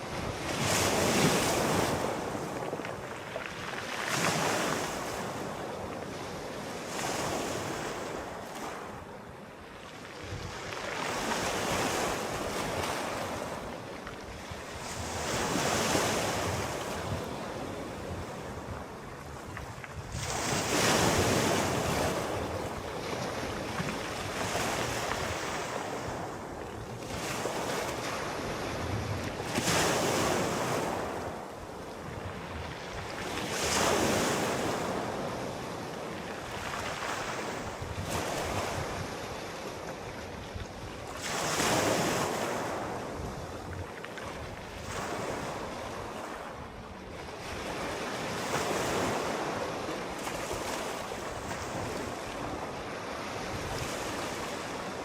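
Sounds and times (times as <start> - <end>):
sea waves breaking: 0.0 - 55.0
wind noise on microphone: 0.0 - 55.0.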